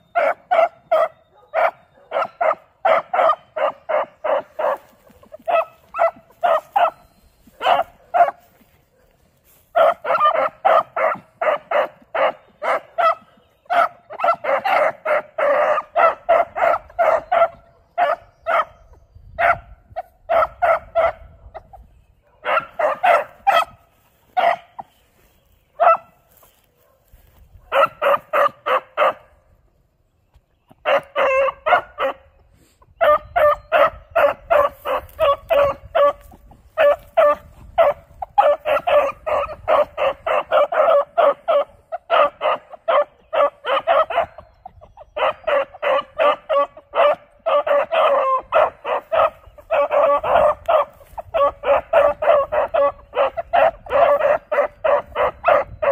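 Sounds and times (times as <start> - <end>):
dogs yipping and bawling: 0.0 - 29.3, 30.7 - 55.9.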